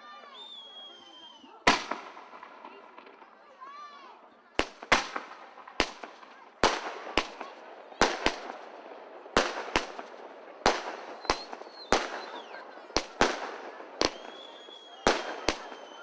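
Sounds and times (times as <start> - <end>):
fireworks bangs: 1.6 - 3.7, 4.5 - 16.0.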